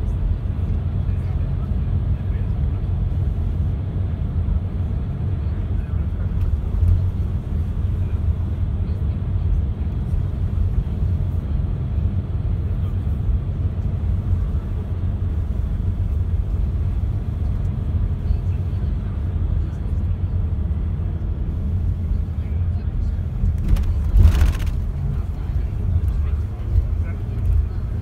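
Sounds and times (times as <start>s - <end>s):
coach engine and road noise: 0.0s - 28.0s.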